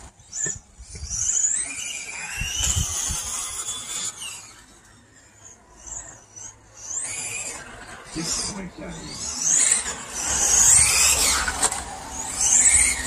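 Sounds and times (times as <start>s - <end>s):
radio-controlled car whining: 0.0s - 13.0s.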